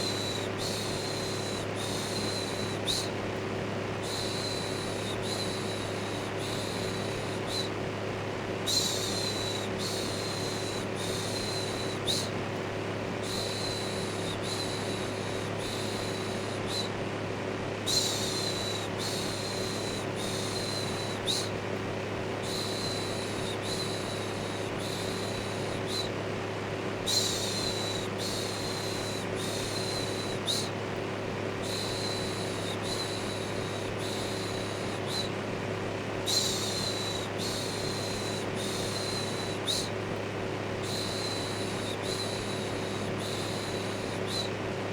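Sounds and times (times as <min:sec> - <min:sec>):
electric fan whirring: 0:00.0 - 0:44.9.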